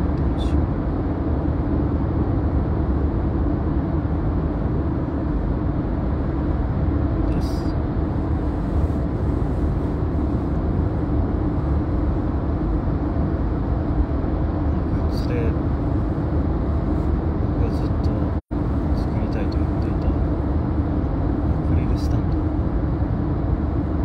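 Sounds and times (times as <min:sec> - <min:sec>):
car cabin road rumble: 0:00.0 - 0:24.0.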